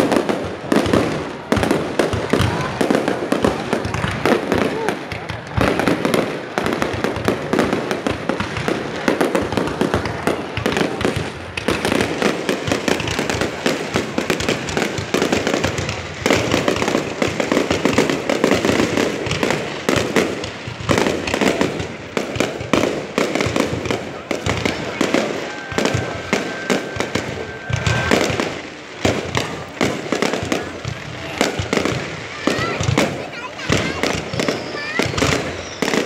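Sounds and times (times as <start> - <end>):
fireworks launching and bursting: 0.0 - 36.0.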